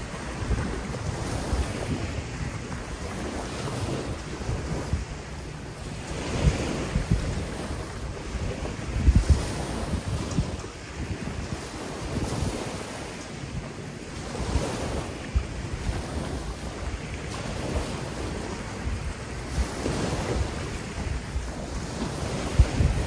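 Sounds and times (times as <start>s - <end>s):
small waves washing onto shore: 0.0s - 23.0s
wind gusting on microphone: 0.0s - 23.0s.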